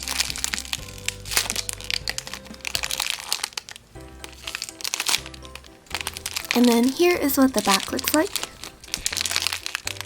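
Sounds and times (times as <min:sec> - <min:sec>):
background music: 0:00.0 - 0:10.0
packaging crinkling: 0:00.0 - 0:10.0.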